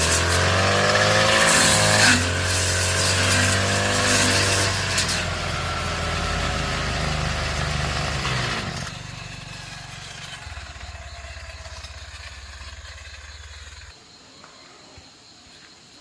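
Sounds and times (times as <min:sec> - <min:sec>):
small motorcycle engine idling: 0:00.0 - 0:14.0.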